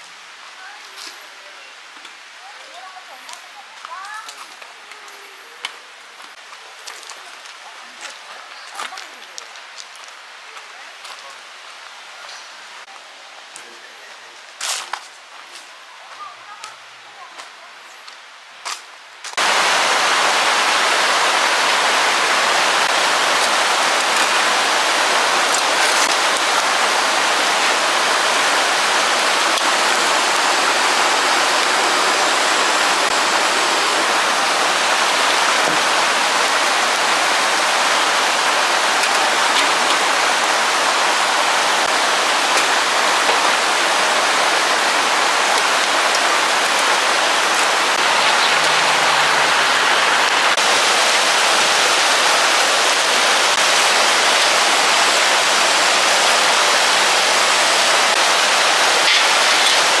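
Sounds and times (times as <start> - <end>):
rain falling steadily: 0.0 - 60.0.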